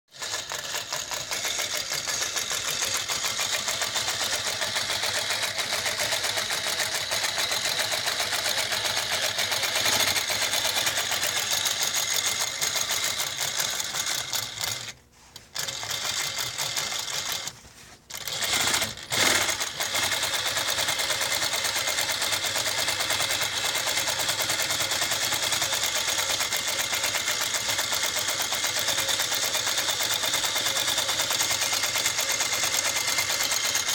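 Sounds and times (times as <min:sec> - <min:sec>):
industrial sewing machine stitching: 0:00.1 - 0:15.0, 0:15.6 - 0:33.9.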